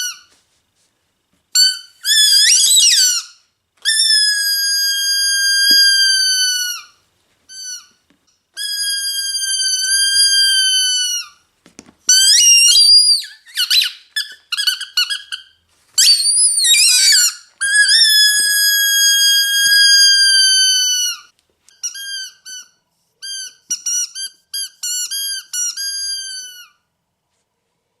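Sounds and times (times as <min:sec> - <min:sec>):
squeaky dog toy squeaking: 0:00.0 - 0:00.3, 0:01.5 - 0:11.4, 0:12.1 - 0:26.9.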